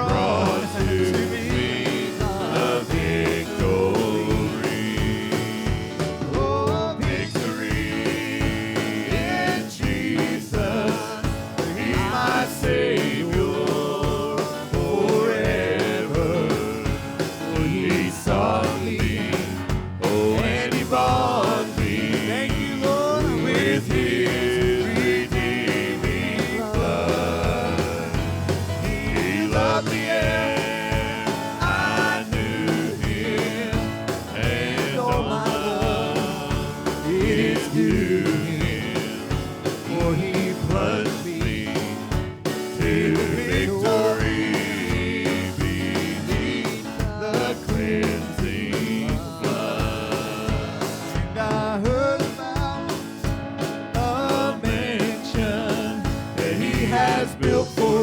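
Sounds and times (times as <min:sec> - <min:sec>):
person singing: 0:00.0 - 0:53.2, 0:54.0 - 0:58.0
gospel band playing: 0:00.0 - 0:58.0.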